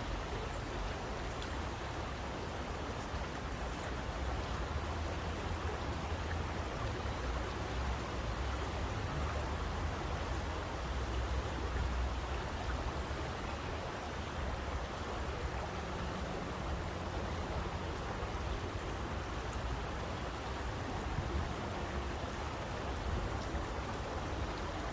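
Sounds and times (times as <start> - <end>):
rushing water: 0.0 - 24.9.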